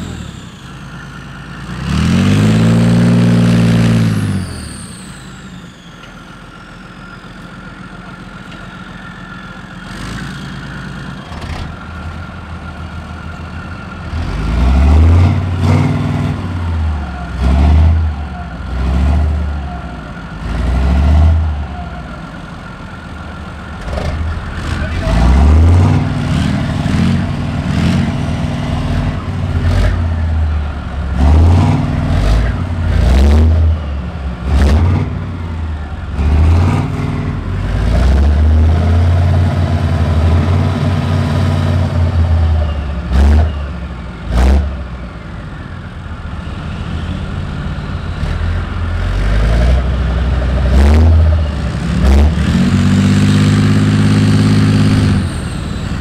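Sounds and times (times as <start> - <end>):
diesel engines idling and revving: 0.0 - 56.0.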